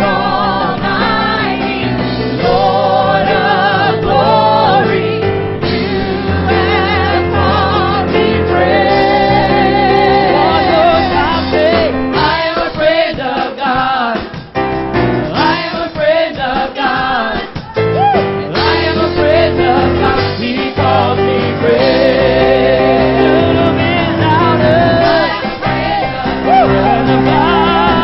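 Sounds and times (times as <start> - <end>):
band accompaniment: 0.0 - 28.0
gospel choir singing: 0.0 - 28.0.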